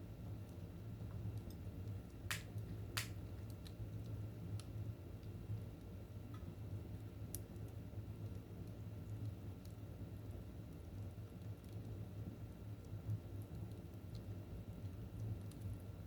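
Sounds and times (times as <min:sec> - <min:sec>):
low fire rumble: 0:00.0 - 0:16.0
wood fire crackling and popping: 0:00.3 - 0:16.0.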